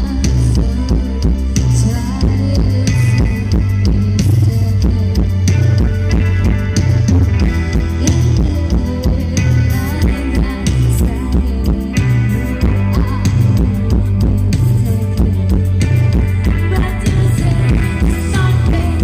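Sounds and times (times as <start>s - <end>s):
band music: 0.0s - 19.0s
guitar: 0.0s - 19.0s
heavy drum and bass beat: 0.0s - 19.0s.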